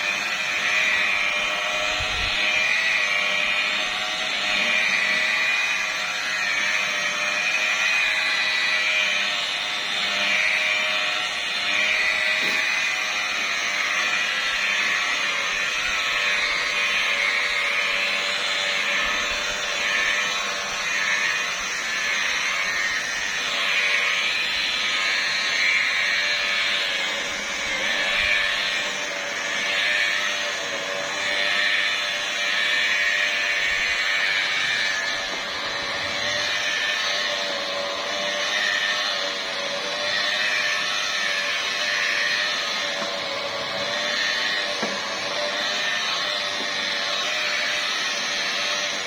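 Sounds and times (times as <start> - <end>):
electric polishing machine running: 0.0 - 49.0.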